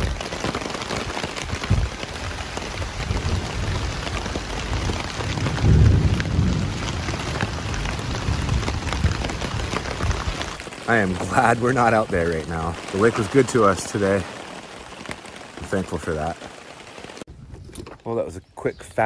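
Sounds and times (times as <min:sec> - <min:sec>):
steady rain falling: 0:00.0 - 0:17.3.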